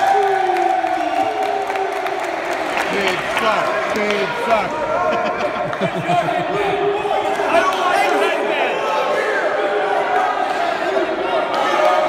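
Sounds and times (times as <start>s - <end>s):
crowd cheering and calling out: 0.0s - 12.0s.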